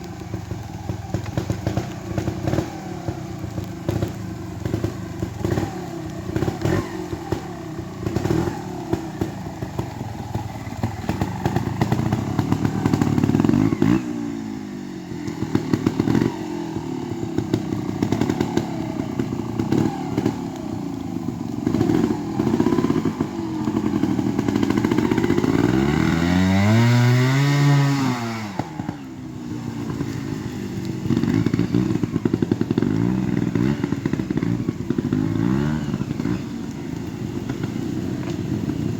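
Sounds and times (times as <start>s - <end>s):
motorcycle engine throttle blips: 0.0s - 38.9s.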